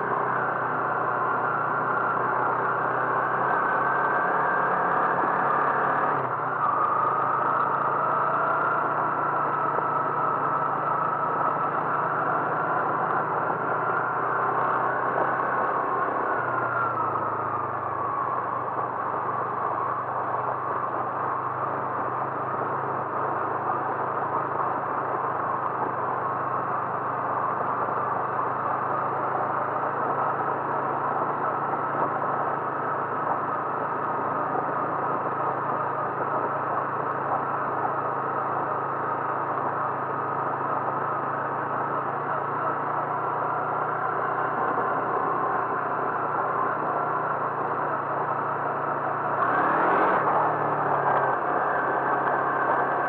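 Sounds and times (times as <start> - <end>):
road noise: 0.0 - 53.0
vehicle engine hum: 0.0 - 53.0.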